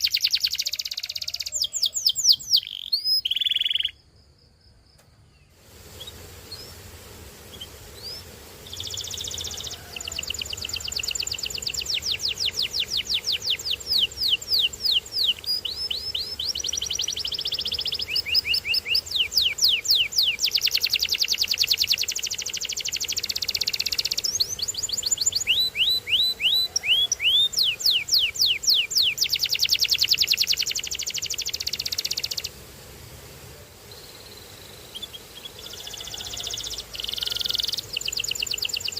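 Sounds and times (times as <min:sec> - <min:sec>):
canary singing: 0:00.0 - 0:04.0, 0:07.5 - 0:32.6, 0:34.0 - 0:38.9.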